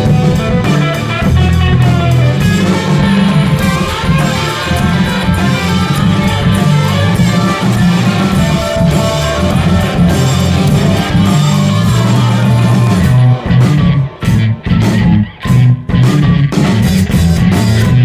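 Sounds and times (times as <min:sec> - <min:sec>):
psychedelic rock band playing: 0:00.0 - 0:18.0.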